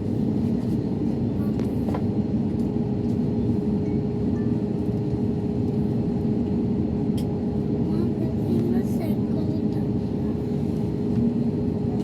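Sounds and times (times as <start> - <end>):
jet engines running at low power: 0.0 - 12.0.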